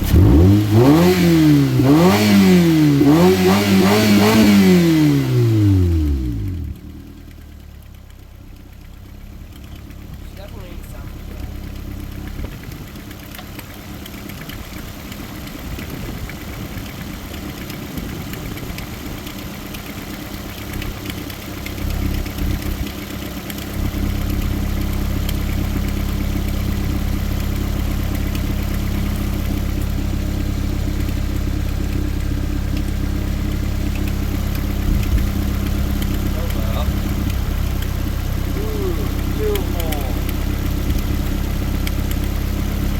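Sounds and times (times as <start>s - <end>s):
car engine running roughly: 0.0s - 42.9s.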